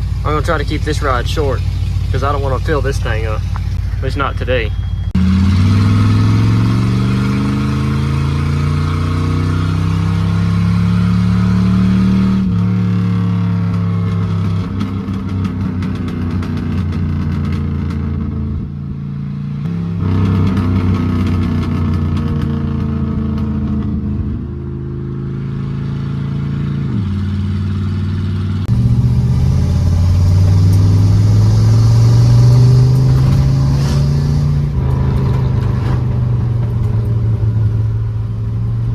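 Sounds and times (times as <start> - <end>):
exhaust popping crackle: 0.0 - 18.8, 19.7 - 24.6, 26.8 - 38.9
car engine revving: 0.0 - 38.9.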